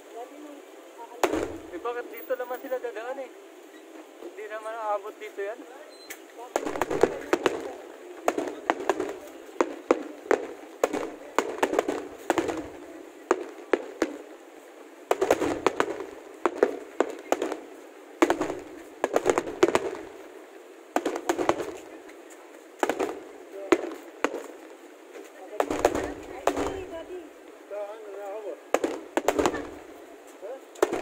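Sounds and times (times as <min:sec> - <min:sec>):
fireworks bangs and crackles: 0:00.2 - 0:31.0.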